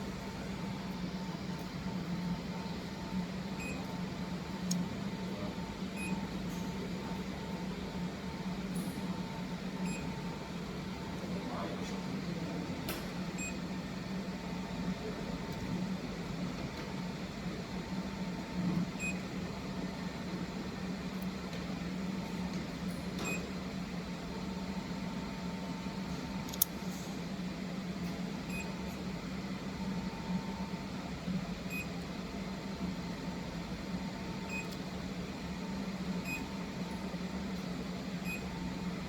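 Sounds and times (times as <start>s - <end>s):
laser welding machine humming: 0.0s - 39.0s.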